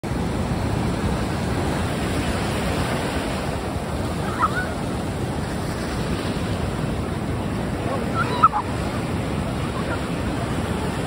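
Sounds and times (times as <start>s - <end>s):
ocean surf washing in: 0.0s - 11.0s.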